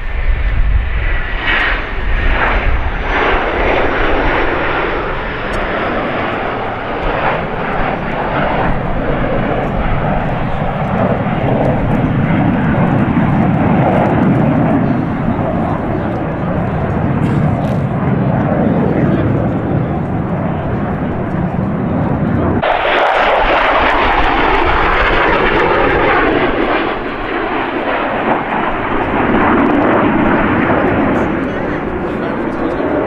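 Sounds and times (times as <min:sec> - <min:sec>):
fighter jets flying past: 0:00.0 - 0:33.0.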